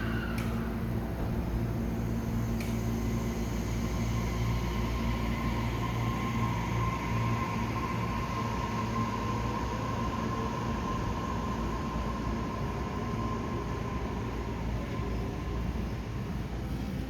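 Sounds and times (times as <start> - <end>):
train motor whine: 0.0 - 15.6
electric train rumble and hiss: 0.0 - 17.0.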